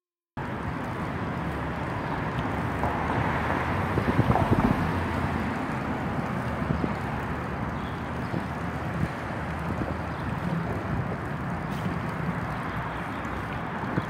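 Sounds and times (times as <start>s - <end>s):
wind buffeting microphone: 2.2s - 14.0s.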